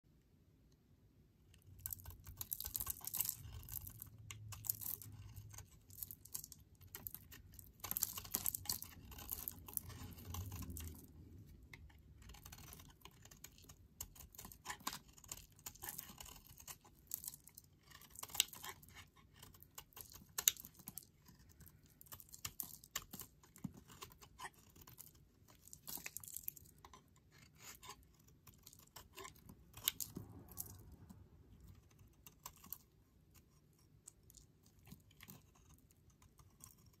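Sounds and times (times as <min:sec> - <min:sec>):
knife carving soap: 0:00.7 - 0:37.0.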